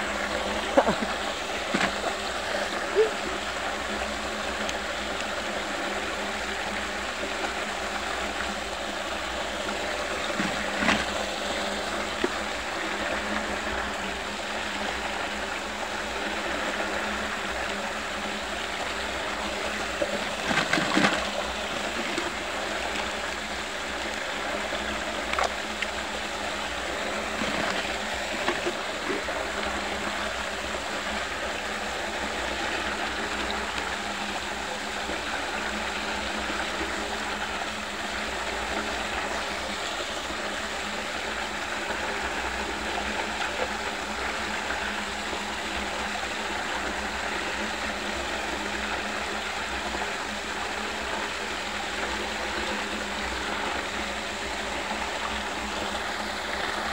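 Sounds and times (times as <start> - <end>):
water rushing down a drain: 0.0 - 56.9.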